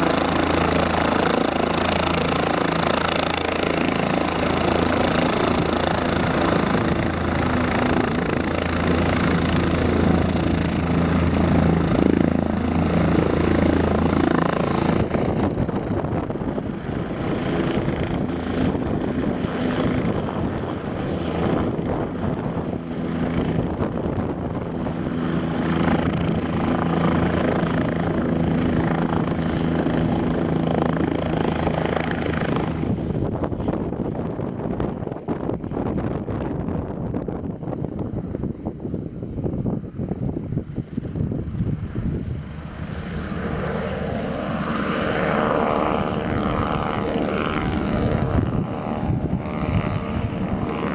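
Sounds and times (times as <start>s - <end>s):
helicopter running: 0.0s - 50.9s.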